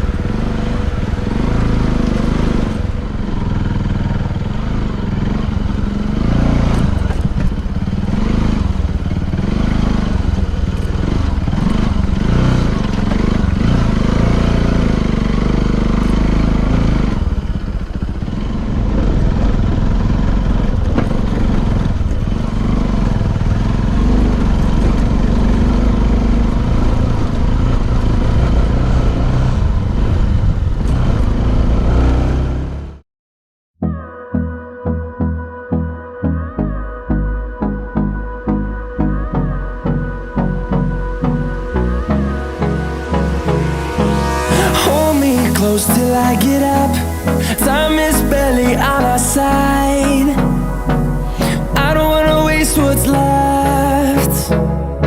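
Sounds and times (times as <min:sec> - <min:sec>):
engine rumble: 0:00.0 - 0:33.0, 0:34.9 - 0:55.0.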